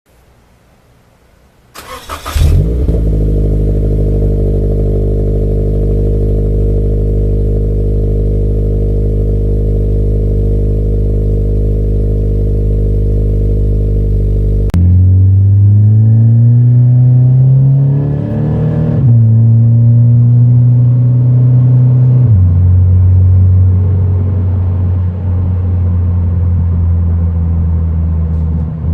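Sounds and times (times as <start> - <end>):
car engine starting and idling: 1.7 - 28.9.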